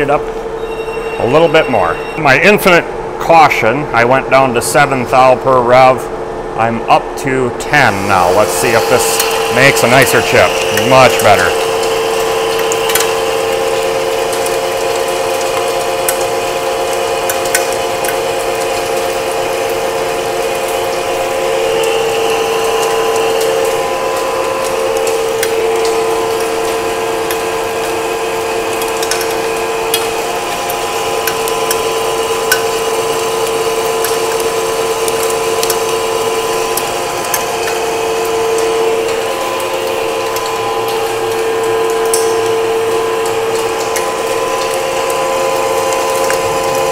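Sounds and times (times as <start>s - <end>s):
lathe whining under load: 5.1s - 46.9s.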